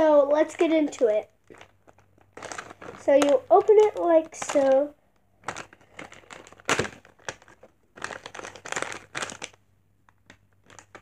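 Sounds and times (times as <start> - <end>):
toy packaging crinkling: 0.0 - 11.0.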